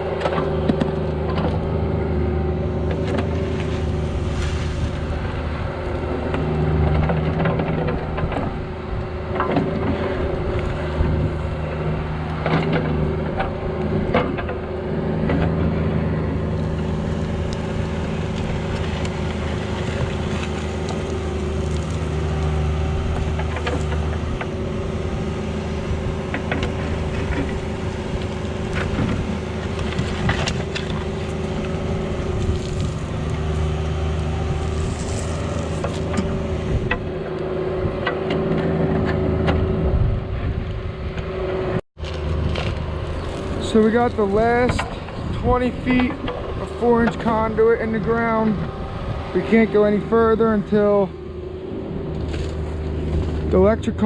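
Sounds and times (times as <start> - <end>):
excavator diesel engine running: 0.0 - 39.8, 40.8 - 54.0.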